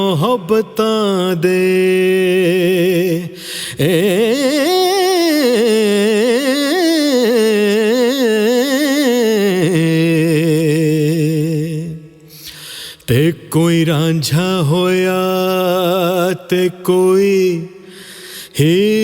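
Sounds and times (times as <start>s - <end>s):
person singing melismatic vocal: 0.0s - 19.0s.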